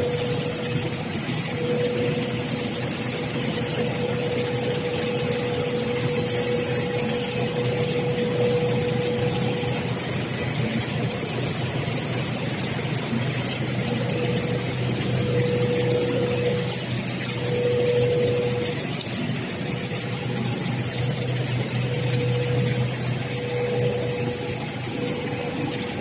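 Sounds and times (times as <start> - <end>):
mid-pitched machine whine: 0.0 - 26.0
paper cutting machine hum: 0.0 - 26.0.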